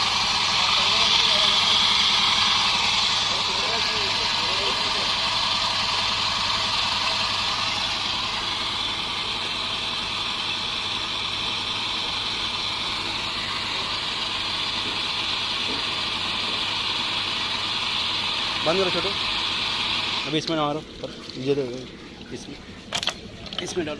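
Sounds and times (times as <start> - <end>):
water jet spraying: 0.0 - 23.0
pressure washer humming: 0.0 - 23.9.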